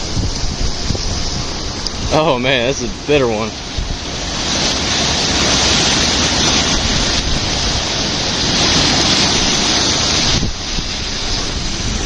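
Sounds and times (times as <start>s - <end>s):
whirlpool roaring: 0.0s - 12.0s.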